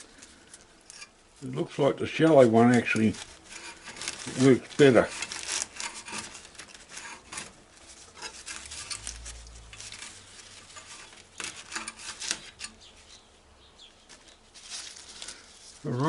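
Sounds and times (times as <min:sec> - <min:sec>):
leaves rustling and rubbing: 0:00.0 - 0:16.0.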